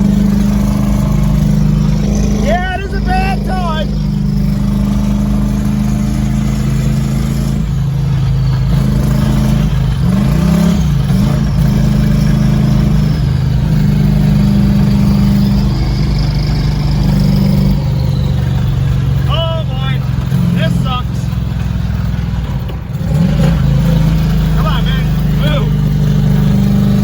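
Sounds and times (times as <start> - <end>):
engine running and knocking: 0.0 - 27.0.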